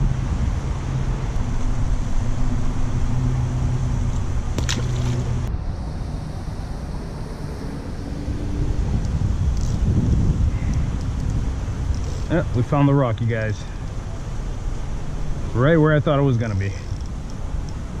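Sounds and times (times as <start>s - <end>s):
steady low hum: 0.0s - 18.0s
wind buffeting microphone: 0.0s - 18.0s.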